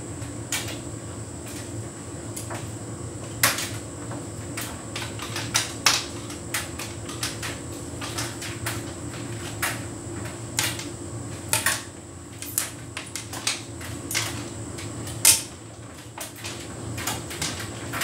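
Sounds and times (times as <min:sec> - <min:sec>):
tumble dryer humming: 0:00.0 - 0:18.0.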